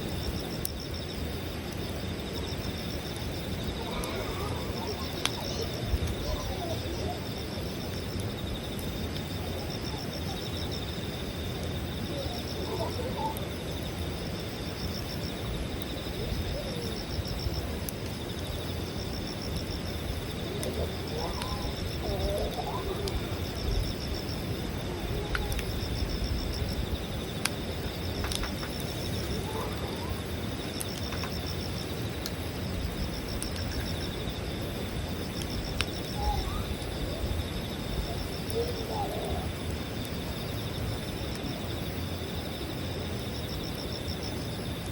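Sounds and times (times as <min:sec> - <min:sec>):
campfire crackling and popping: 0:00.0 - 0:44.9
insects trilling: 0:00.0 - 0:44.9.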